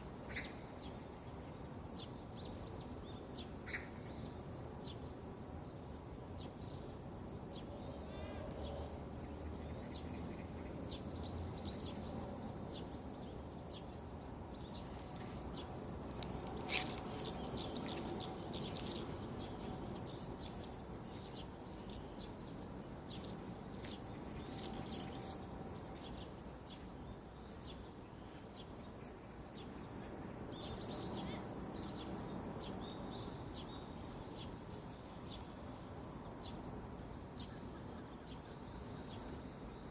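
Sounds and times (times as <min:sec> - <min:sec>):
low background noise: 0:00.0 - 0:39.9
small birds chirping: 0:00.2 - 0:39.9.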